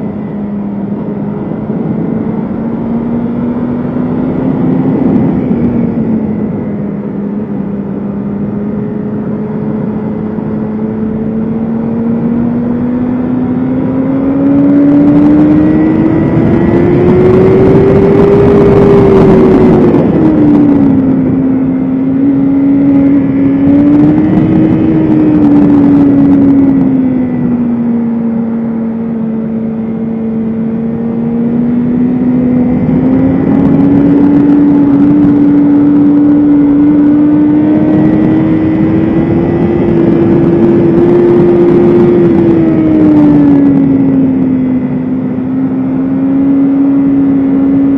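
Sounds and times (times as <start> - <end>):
motorcycle engine running hard: 0.0 - 47.9
wind rushing: 0.2 - 27.7, 31.1 - 47.9.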